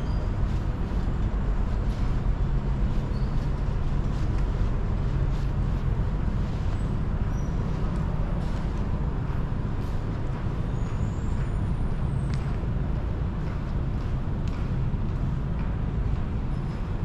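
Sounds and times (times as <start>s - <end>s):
city background rumble: 0.0s - 17.0s.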